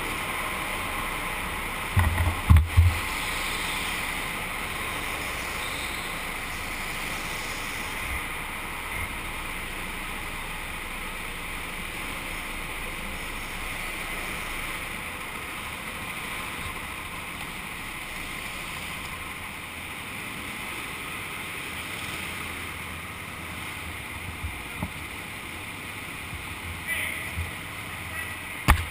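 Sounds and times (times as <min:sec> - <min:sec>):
go-kart hiss and rumble: 0:00.0 - 0:28.9.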